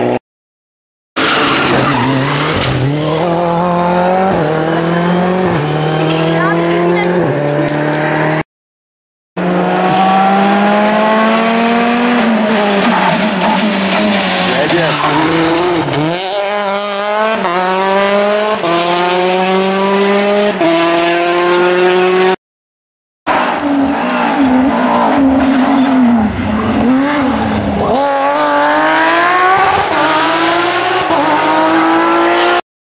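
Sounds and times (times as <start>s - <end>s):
rally car accelerating through gears: 1.2s - 8.4s, 9.4s - 22.4s, 23.3s - 32.6s
rally car engine slowing and accelerating: 1.2s - 8.4s, 9.4s - 22.4s, 23.3s - 32.6s.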